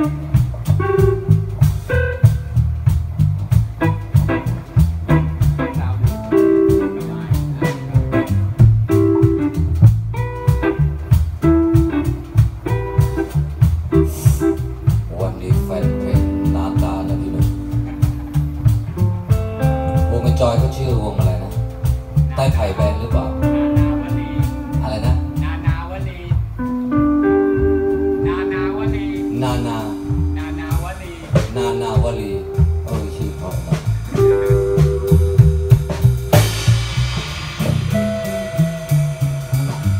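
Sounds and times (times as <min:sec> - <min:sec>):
drum kit beat: 0:00.0 - 0:39.9
electric guitars: 0:00.0 - 0:39.9
live rock band playing: 0:00.0 - 0:39.9.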